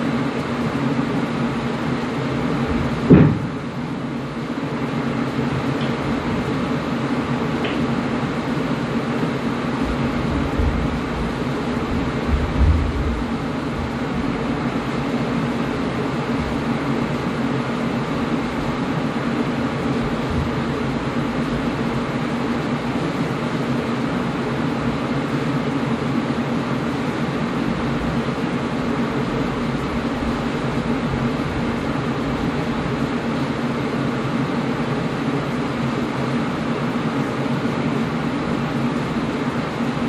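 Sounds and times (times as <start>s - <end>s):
air conditioner running: 0.0s - 40.0s.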